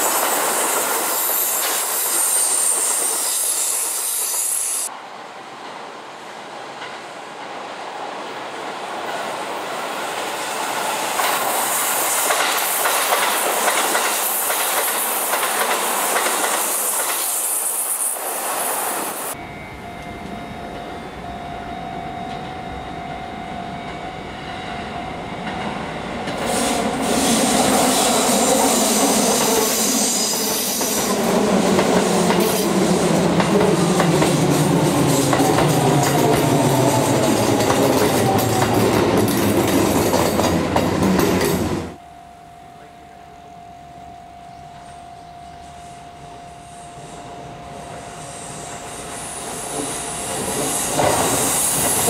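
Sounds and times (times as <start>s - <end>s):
electric train passing: 0.0s - 52.0s
train approaching: 0.0s - 52.0s.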